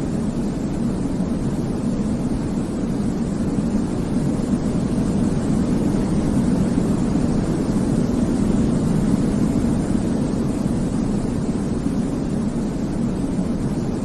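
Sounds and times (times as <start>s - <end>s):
deep white noise hiss: 0.0s - 14.0s.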